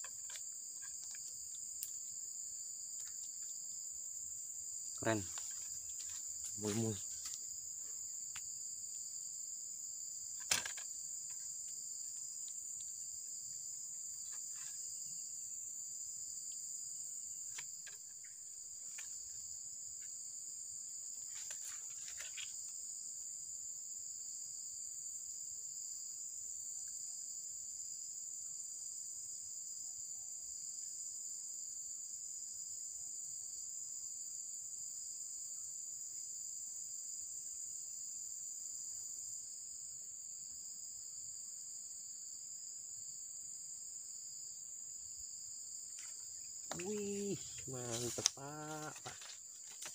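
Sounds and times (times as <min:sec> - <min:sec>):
high-pitched insect chorus: 0:00.0 - 0:49.9.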